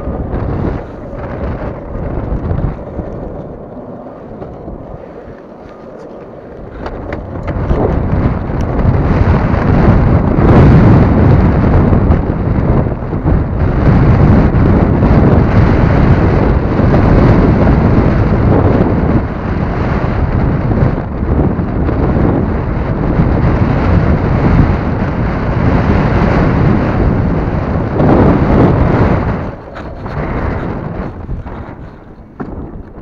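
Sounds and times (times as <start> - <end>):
wind blasting microphone: 0.0 - 33.0.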